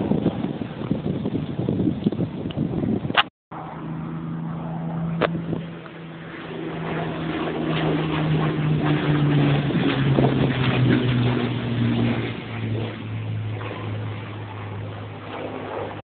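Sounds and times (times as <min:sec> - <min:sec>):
propeller aircraft engine flying past: 0:00.0 - 0:16.0.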